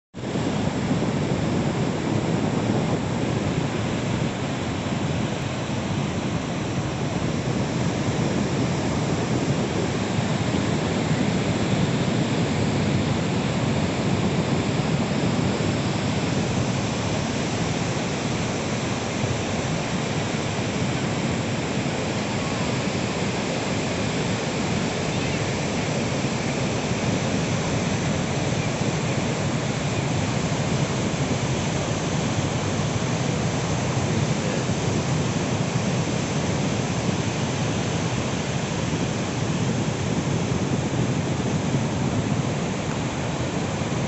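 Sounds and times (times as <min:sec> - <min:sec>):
ocean surf breaking on beach: 0:00.2 - 0:44.0.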